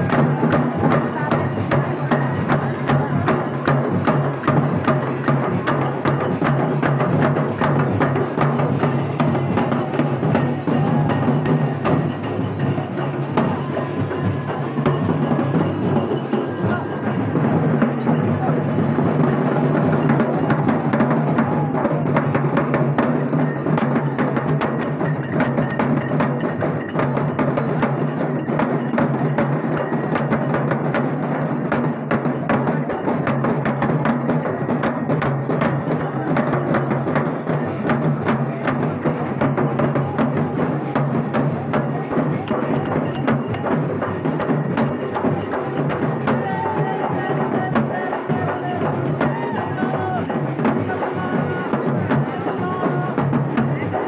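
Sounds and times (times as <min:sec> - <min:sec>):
frame drums and barrel drum: 0:00.0 - 0:54.0.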